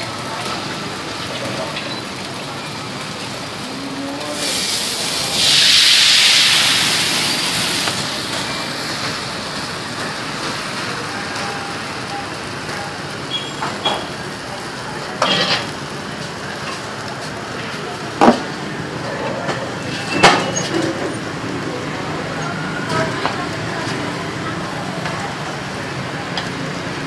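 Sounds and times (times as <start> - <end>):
batter frying in hot oil: 0.0 - 27.0.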